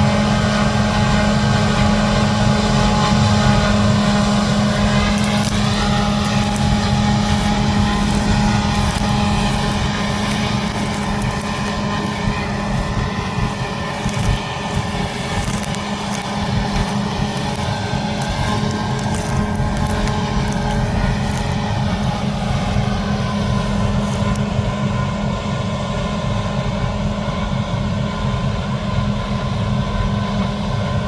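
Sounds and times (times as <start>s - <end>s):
whine of drives: 0.0s - 29.2s.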